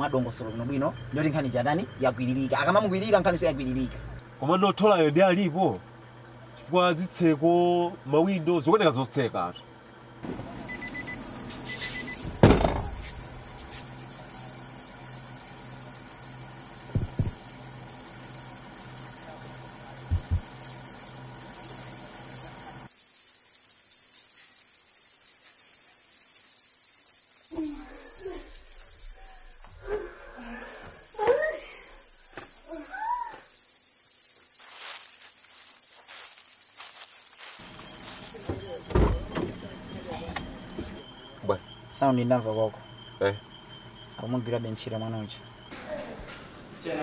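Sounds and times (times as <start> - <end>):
crickets chirring: 0.0 - 6.4, 9.7 - 46.2.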